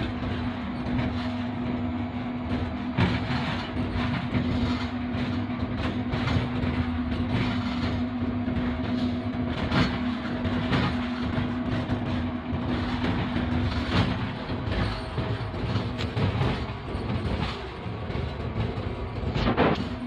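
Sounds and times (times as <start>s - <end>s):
locomotive rumble: 0.0s - 20.0s
steady hum: 0.0s - 20.0s
wheels knocking over rail joints: 2.4s - 20.0s.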